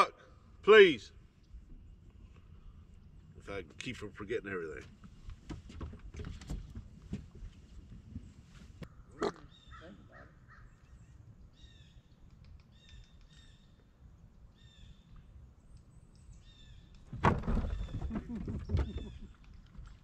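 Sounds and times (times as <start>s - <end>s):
birds calling faintly: 1.1s - 20.0s.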